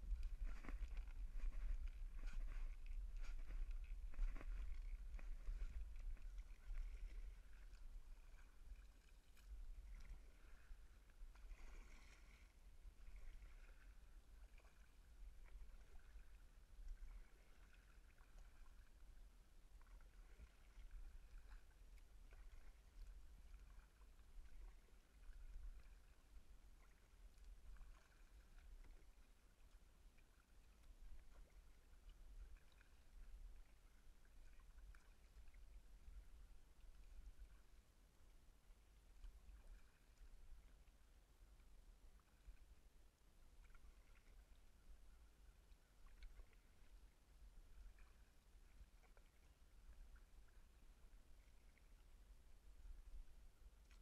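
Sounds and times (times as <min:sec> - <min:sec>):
muffled paddle strokes in water: 0:00.0 - 0:54.0.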